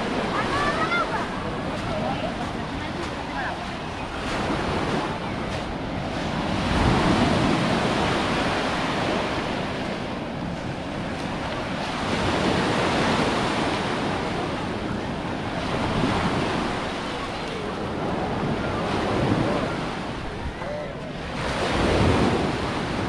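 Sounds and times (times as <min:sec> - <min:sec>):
waves washing on shingle: 0:00.0 - 0:20.1.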